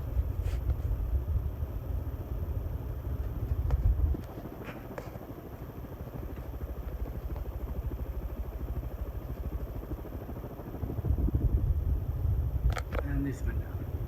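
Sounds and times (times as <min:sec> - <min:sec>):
ceiling fan air rushing: 0:00.0 - 0:14.0.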